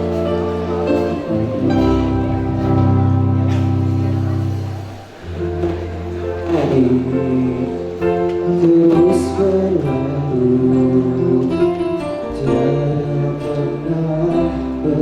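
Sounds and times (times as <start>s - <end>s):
instrumental accompaniment: 0.0s - 15.0s
steady bass line: 0.0s - 15.0s.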